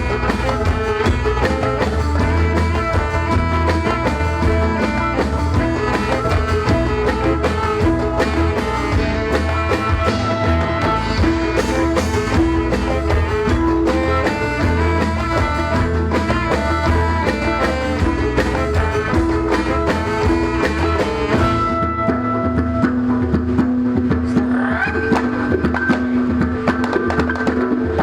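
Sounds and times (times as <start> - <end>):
bass and drum beat: 0.0 - 22.8
plucked string melody: 0.0 - 23.8.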